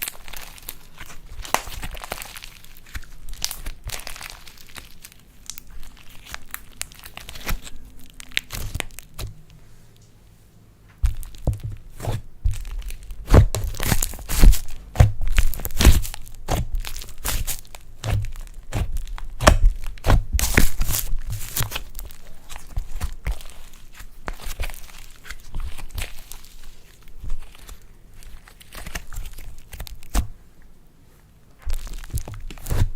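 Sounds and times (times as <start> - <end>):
slime squishing and popping: 0.0 - 9.4, 11.0 - 30.4, 31.6 - 32.9.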